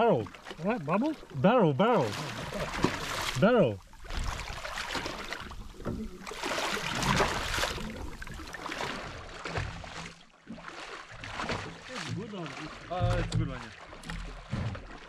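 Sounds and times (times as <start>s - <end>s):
water lapping against boat: 0.0s - 15.0s.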